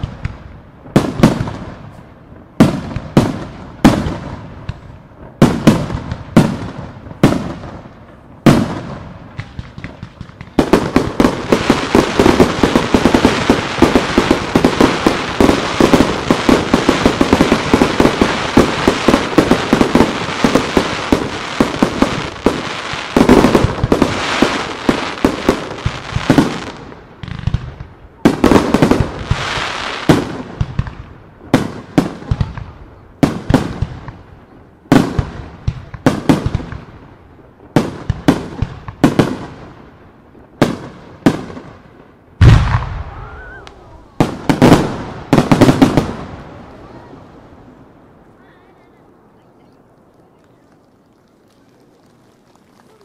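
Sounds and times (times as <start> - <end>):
loud firework bangs: 0.0 - 34.3, 34.9 - 37.1, 37.7 - 39.8, 40.5 - 48.0
fireworks bursting: 0.0 - 53.0.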